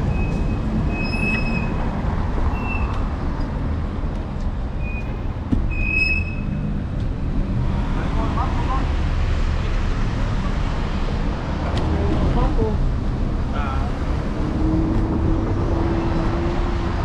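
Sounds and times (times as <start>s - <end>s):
road rumble: 0.0s - 17.0s.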